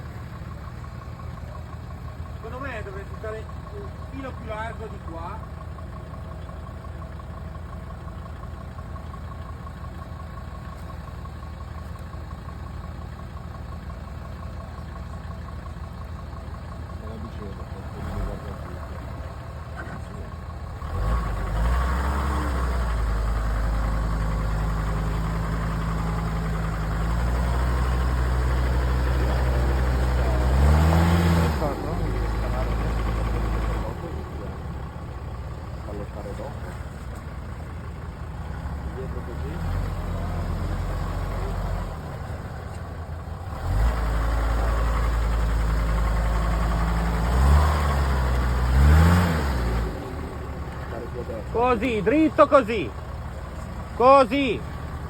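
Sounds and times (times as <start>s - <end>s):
off-road vehicle engine: 0.0s - 55.0s.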